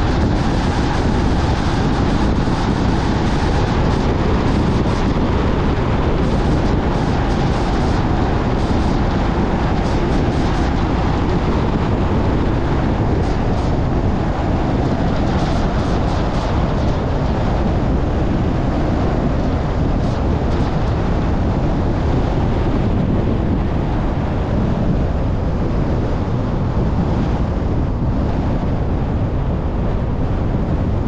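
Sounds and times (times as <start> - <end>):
car tyre and wind noise: 0.0 - 31.0.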